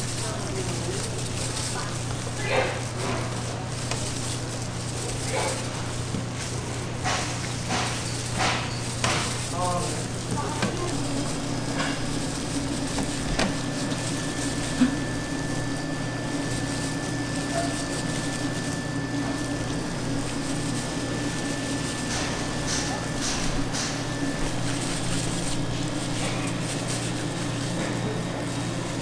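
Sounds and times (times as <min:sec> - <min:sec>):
cooking hiss: 0:00.0 - 0:29.0.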